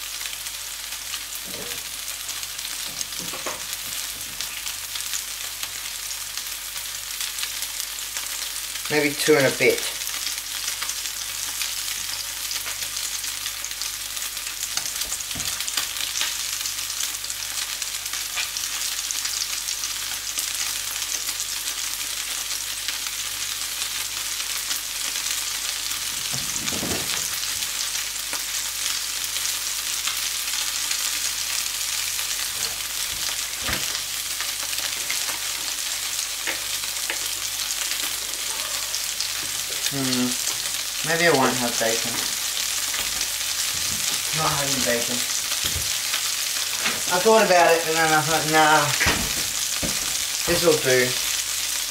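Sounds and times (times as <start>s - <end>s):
burger sizzling in frying pan: 0.0s - 51.9s.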